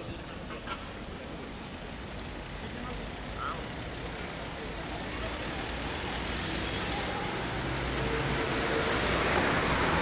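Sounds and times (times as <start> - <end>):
faint voices: 0.0 - 9.6
cyclists riding by: 0.0 - 10.0.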